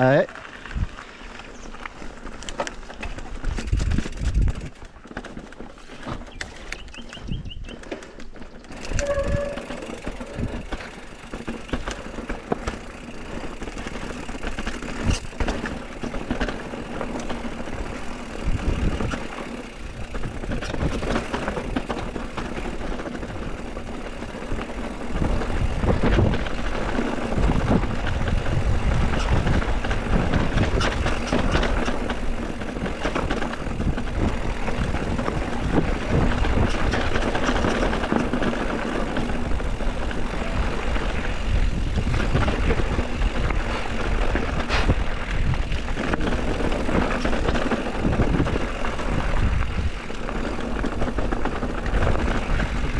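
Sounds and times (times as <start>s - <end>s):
bike clicks and rattles: 0.0s - 52.9s
mountain bike rumbling on trail: 0.0s - 52.9s.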